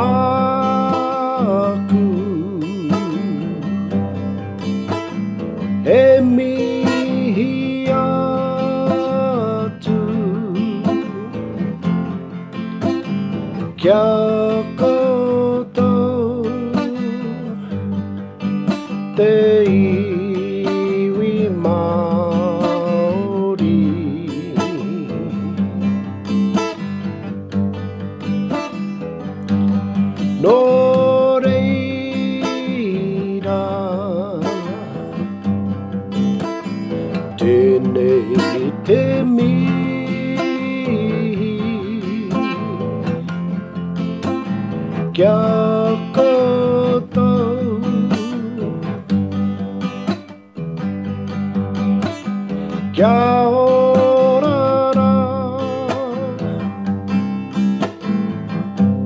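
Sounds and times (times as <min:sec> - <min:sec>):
man singing: 0:00.0 - 0:18.0, 0:18.6 - 0:27.1, 0:30.0 - 0:49.1, 0:52.1 - 0:56.9
acoustic guitar strumming: 0:00.0 - 0:59.0.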